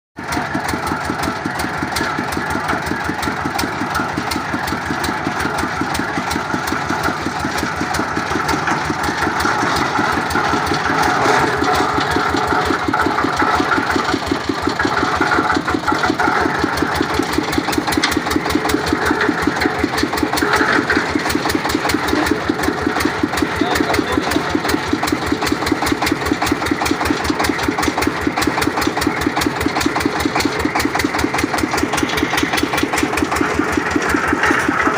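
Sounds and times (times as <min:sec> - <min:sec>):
drilling machine engine running: 0:00.2 - 0:34.9.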